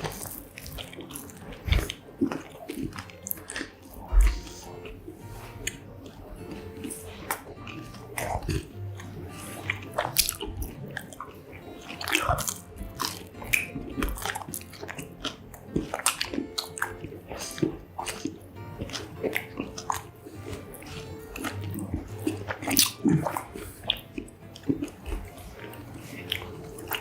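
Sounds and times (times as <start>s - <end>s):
crunchy bites and chewing: 0.0s - 27.0s.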